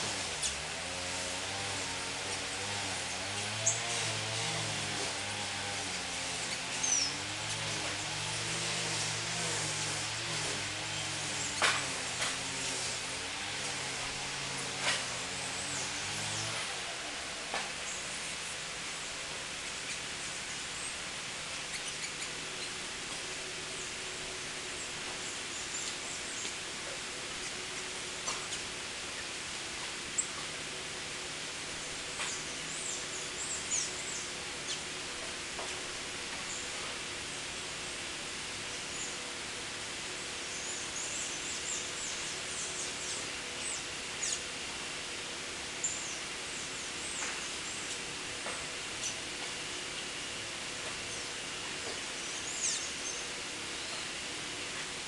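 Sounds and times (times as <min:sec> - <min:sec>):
birds chirping: 0:00.0 - 0:30.5, 0:31.6 - 0:37.6, 0:40.4 - 0:44.5, 0:45.7 - 0:54.3
background hiss: 0:00.0 - 0:55.0.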